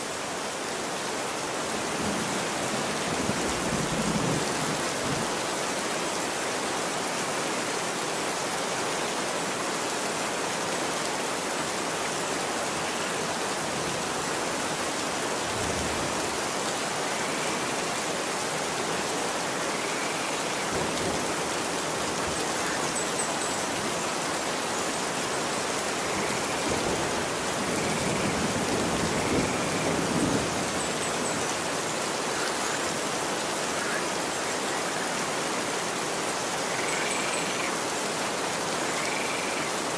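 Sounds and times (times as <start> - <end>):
rain falling on street: 0.0 - 39.9.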